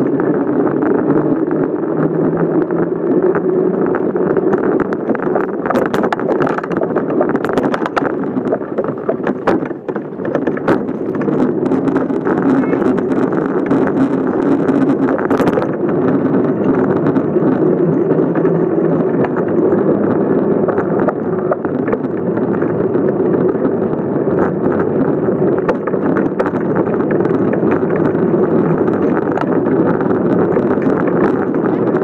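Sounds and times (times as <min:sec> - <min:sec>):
tyre noise on asphalt: 0:00.0 - 0:32.0
wind on microphone: 0:00.0 - 0:32.0.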